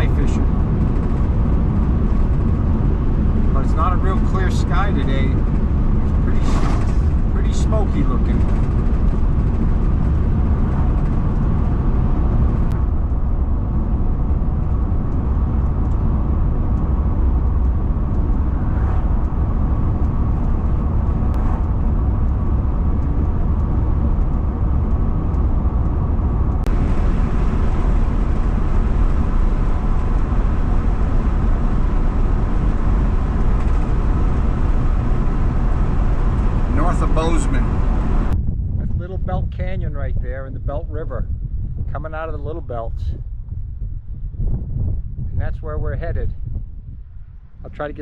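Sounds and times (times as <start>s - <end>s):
road and engine rumble inside van: 0.0s - 48.0s.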